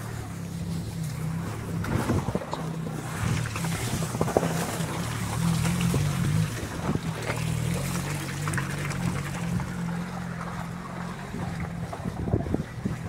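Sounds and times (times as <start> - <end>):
car engine running: 0.0 - 13.0
tyres crunching through slush: 0.0 - 13.0.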